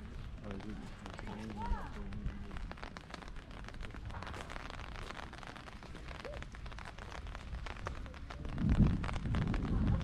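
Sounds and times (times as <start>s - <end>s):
low outdoor rumble: 0.0s - 10.0s
rain pattering: 0.0s - 10.0s.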